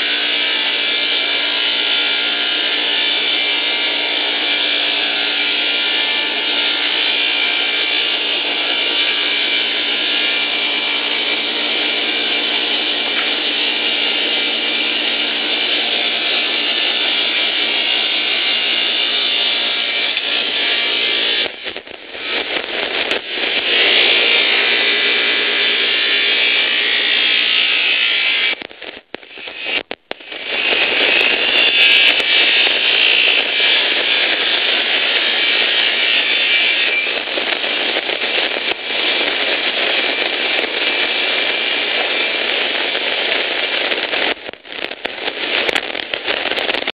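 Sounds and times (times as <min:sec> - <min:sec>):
saw ripping wooden boards: 0:00.0 - 0:46.9.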